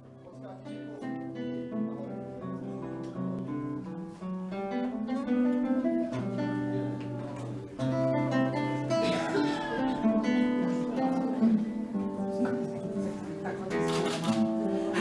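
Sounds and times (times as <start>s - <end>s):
fingerpicked nylon-string guitar: 0.0s - 15.0s.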